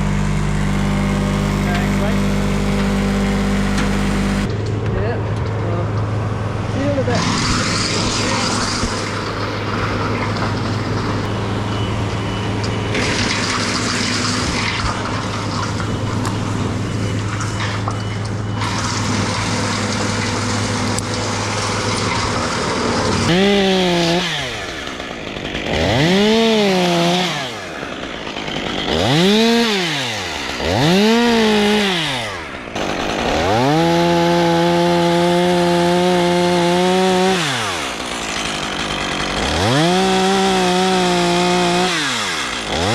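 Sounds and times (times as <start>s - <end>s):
chainsaw revving: 0.0s - 4.6s, 6.5s - 17.8s, 18.5s - 42.9s.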